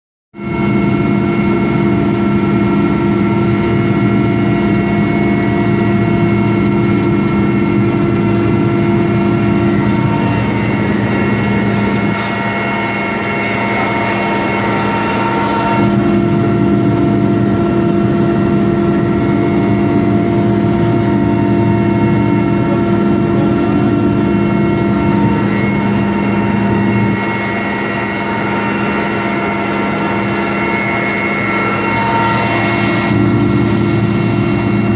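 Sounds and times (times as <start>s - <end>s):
constant whining tones: 0.4s - 34.9s
helicopter engine and rotor drone: 0.4s - 34.9s.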